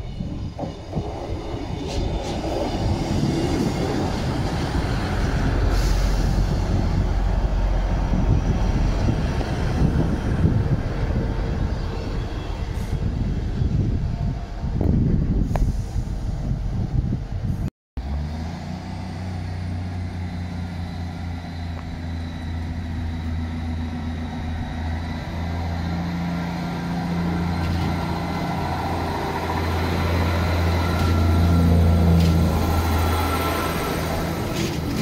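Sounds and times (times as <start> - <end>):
diesel train engine droning: 0.0 - 35.0.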